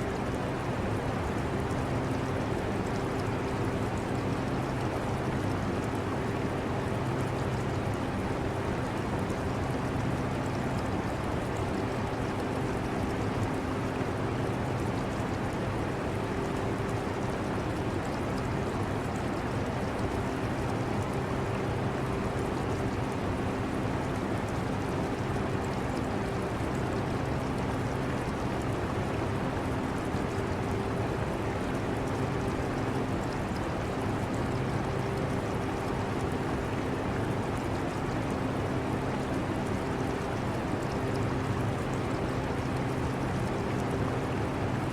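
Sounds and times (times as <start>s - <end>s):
trickling aquarium filter water: 0.0s - 44.9s.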